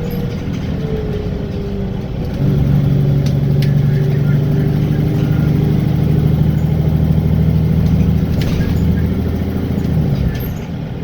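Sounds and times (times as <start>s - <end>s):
bus diesel engine under load: 0.0s - 11.0s.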